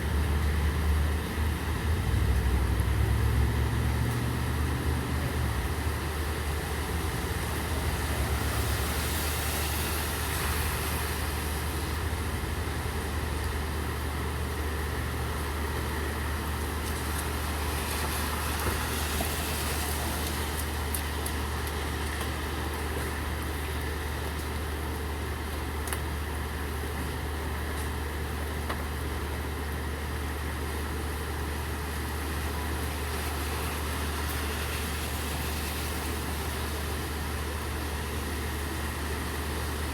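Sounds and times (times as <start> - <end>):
steady rain: 0.0 - 39.9
traffic on wet streets: 0.0 - 39.9.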